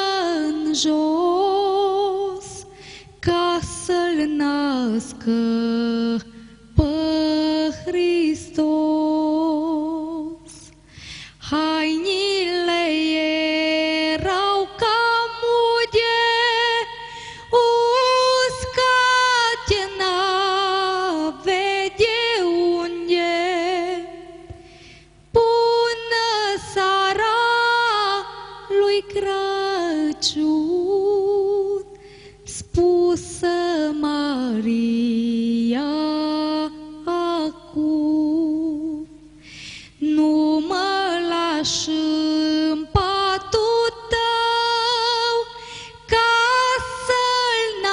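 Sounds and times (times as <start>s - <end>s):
woman singing unaccompanied: 0.0s - 39.3s, 40.0s - 47.9s.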